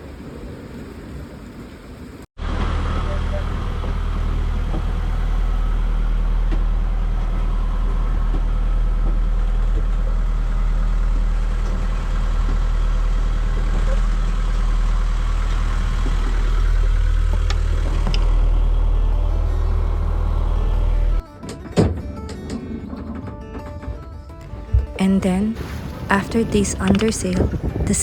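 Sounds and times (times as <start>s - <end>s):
boat engine running: 2.4s - 21.2s, 24.2s - 28.0s.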